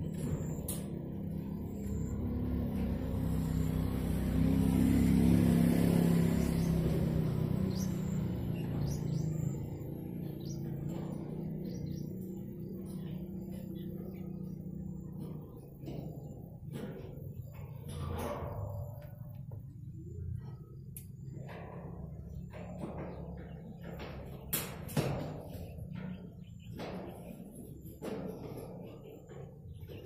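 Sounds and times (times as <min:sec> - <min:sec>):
vehicle passing by: 0:00.0 - 0:24.1
birds chirping: 0:00.0 - 0:30.0.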